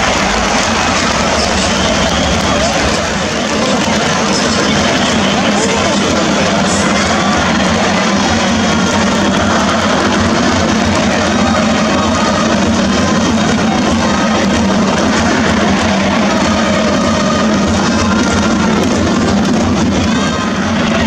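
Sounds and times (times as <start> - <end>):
crowd chanting: 0.0 - 21.0
stadium crowd cheering: 0.0 - 21.0.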